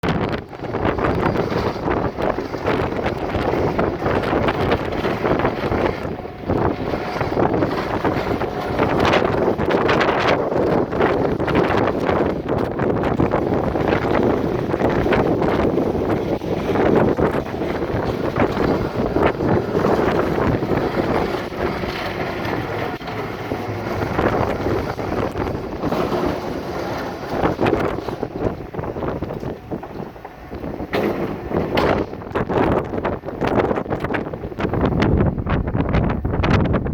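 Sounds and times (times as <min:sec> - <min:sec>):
sea rushing rumble: 0:00.0 - 0:36.9
wind buffeting microphone: 0:00.0 - 0:36.9.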